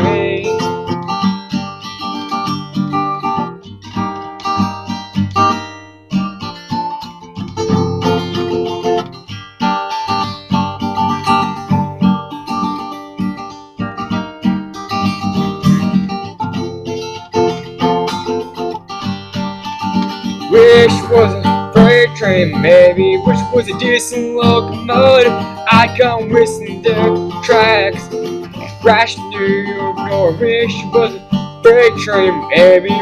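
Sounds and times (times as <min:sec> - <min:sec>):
acoustic guitar strummed and picked: 0:00.0 - 0:33.0.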